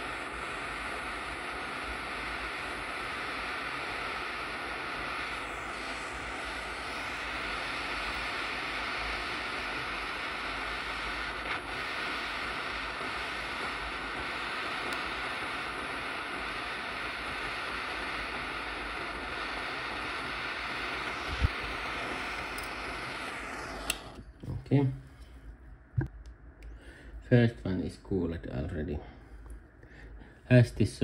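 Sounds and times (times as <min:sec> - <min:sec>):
gas torch flame hissing: 0:00.0 - 0:25.3.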